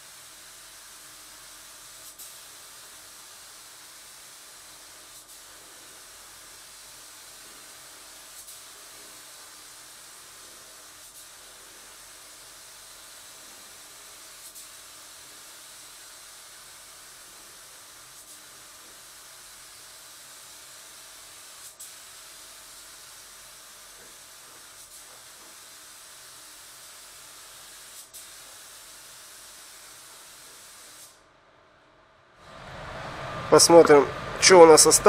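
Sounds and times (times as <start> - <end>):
spray gun air hiss: 0.0 - 31.3.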